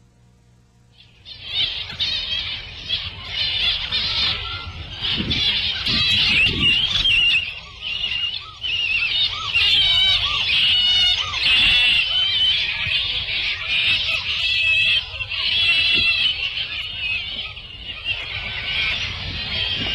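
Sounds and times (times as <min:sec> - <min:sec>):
birds chirping and warbling: 0:00.8 - 0:19.9.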